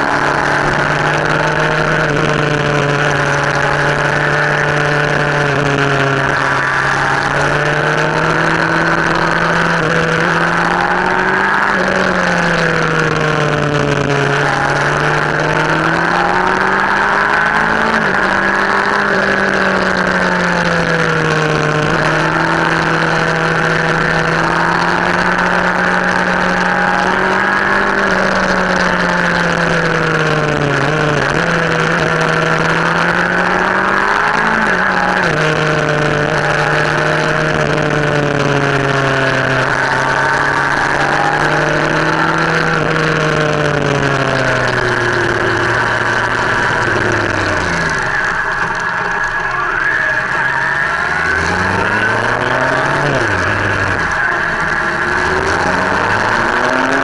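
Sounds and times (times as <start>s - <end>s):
vehicle engine running: 0.0s - 57.0s
wind and road noise: 0.0s - 57.0s.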